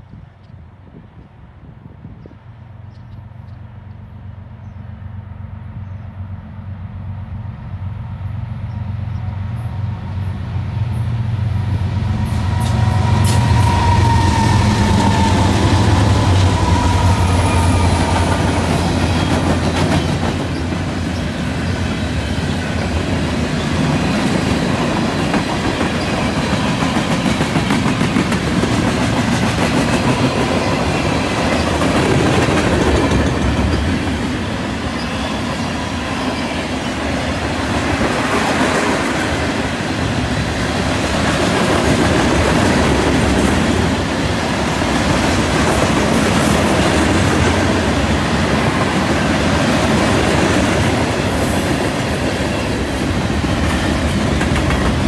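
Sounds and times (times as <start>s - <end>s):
diesel locomotive drone: 0.0s - 55.0s.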